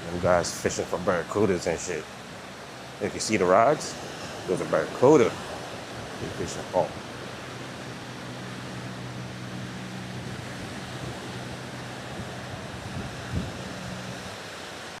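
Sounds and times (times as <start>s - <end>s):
low steady hum: 0.0s - 15.0s
surf on the shore: 0.0s - 15.0s
wind: 0.0s - 15.0s.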